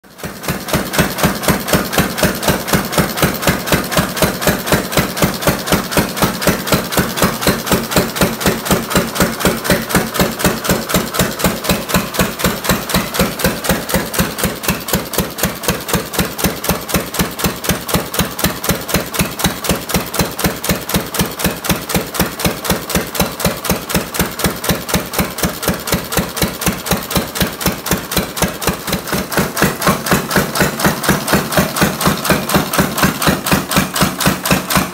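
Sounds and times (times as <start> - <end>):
single-cylinder engine exhaust beats: 0.0 - 34.9.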